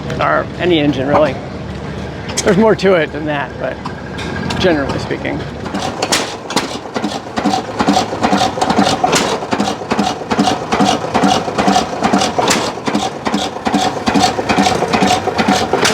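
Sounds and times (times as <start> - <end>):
engine clicking: 0.0 - 15.9
gas engine chugging: 0.0 - 15.9.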